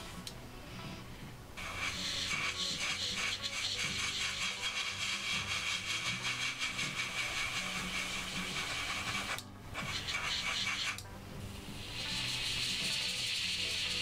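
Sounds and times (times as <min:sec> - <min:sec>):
airbrush spraying hiss: 0:01.6 - 0:14.0.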